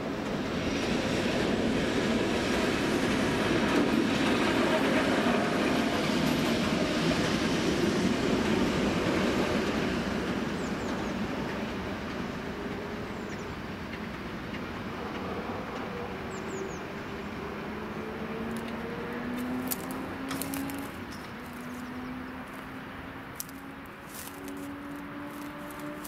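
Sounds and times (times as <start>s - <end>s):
locomotive engine and wheels: 0.0s - 26.0s.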